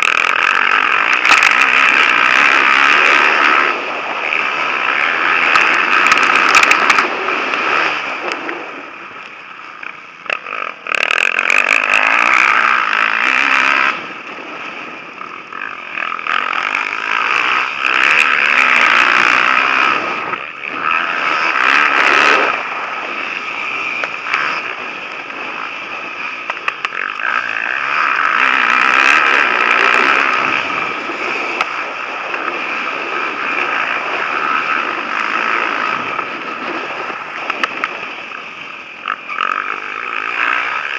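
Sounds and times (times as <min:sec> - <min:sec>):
motocross bikes revving past: 0:00.0 - 0:40.9.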